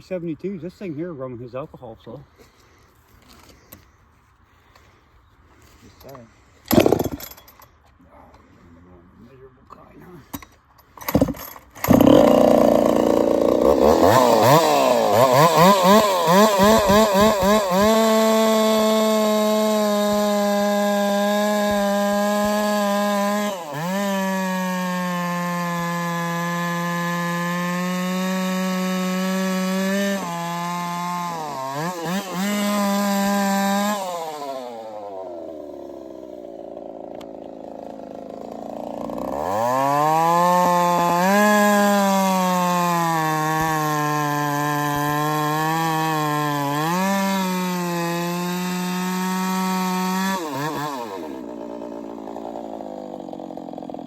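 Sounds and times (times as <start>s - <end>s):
chainsaw cutting wood: 5.7s - 7.8s, 10.3s - 54.0s
chainsaw idling: 6.0s - 7.5s, 11.1s - 54.0s.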